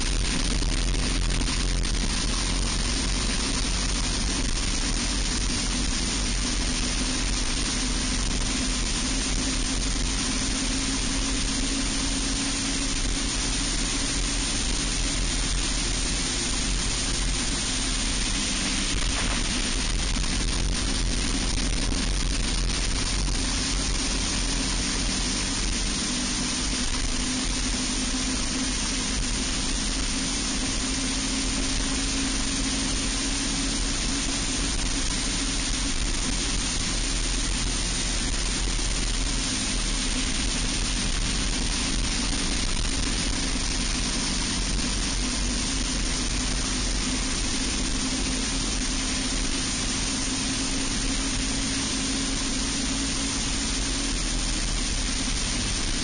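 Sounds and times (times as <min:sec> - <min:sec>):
kart engine running hard: 0:00.0 - 0:56.0.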